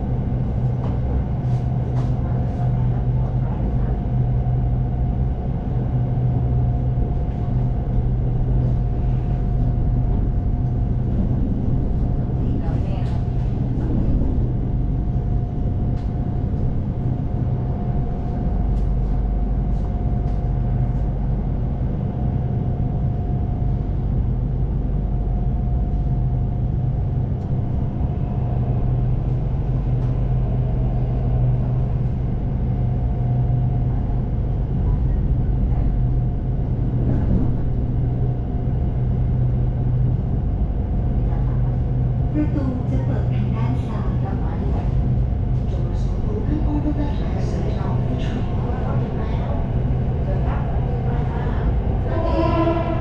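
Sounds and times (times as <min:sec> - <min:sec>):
train rumble and hum: 0:00.0 - 0:53.0.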